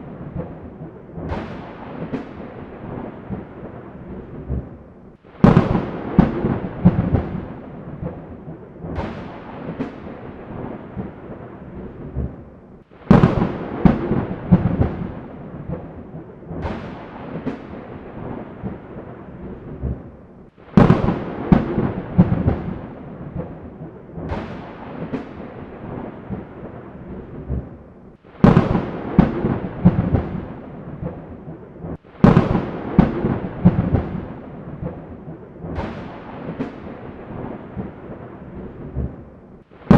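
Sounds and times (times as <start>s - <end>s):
thunderclaps rolling: 0.0s - 39.9s.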